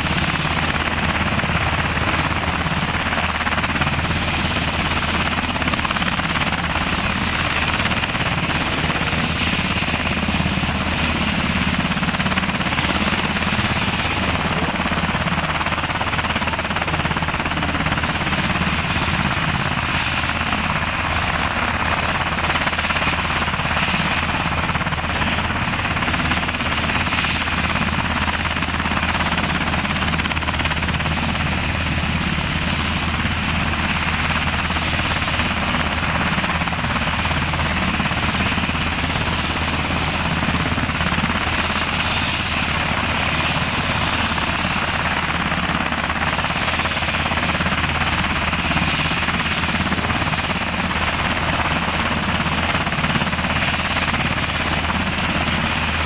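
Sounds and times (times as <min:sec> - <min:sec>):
helicopter engines and rotors: 0:00.0 - 0:56.0.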